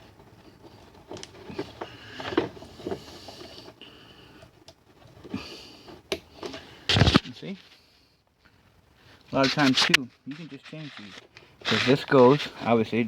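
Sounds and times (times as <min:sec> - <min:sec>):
rustling: 0:00.0 - 0:12.7.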